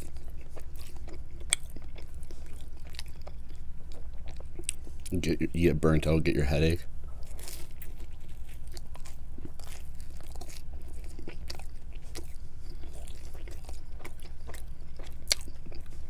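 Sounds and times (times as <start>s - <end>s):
person chewing crunchy crust: 0.0s - 5.4s, 7.1s - 16.0s.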